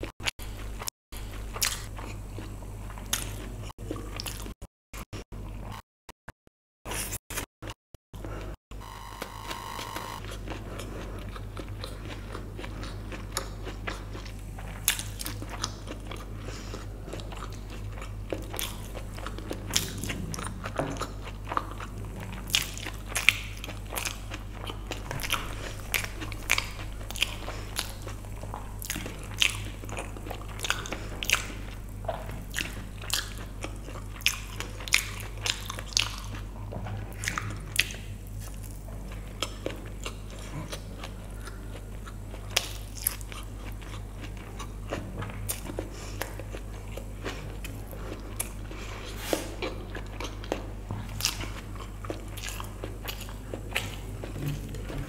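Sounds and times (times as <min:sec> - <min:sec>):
chewing with mouth clicks: 0:00.6 - 0:04.6, 0:09.2 - 0:55.0.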